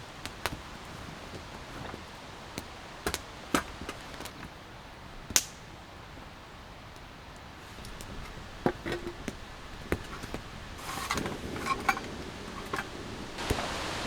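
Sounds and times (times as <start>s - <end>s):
rustling: 0.0s - 14.0s
steady background hiss: 0.0s - 14.0s.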